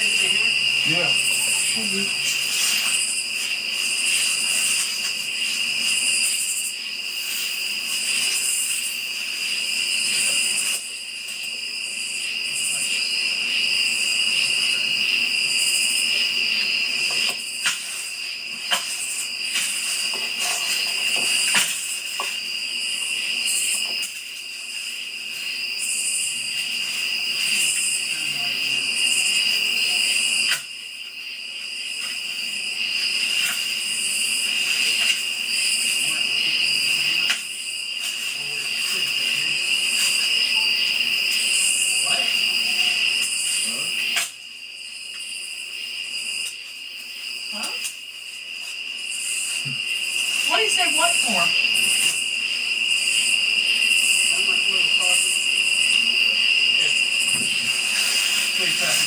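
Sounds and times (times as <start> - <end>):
insect trill pulsing: 0.0 - 59.0
night insects droning: 0.0 - 59.0.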